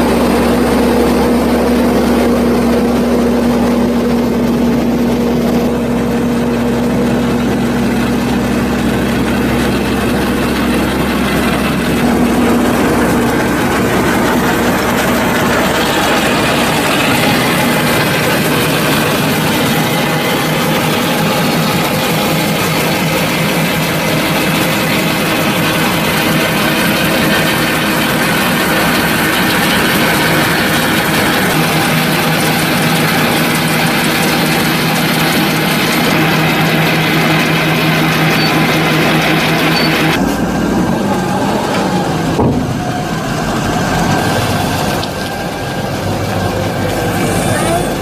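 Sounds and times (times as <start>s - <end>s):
conveyor churning silage: 0.0s - 48.0s
tractor engine running: 0.0s - 48.0s.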